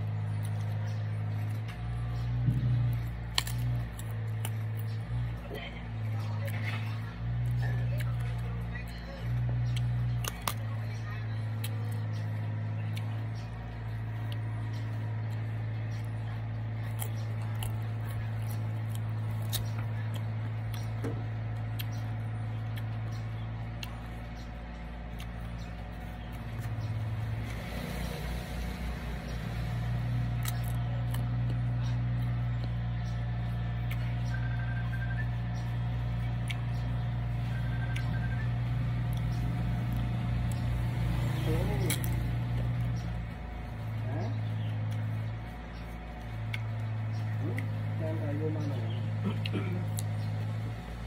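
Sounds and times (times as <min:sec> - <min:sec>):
chewing crisp mango: 0:00.0 - 0:51.0
steady low hum: 0:00.0 - 0:51.0.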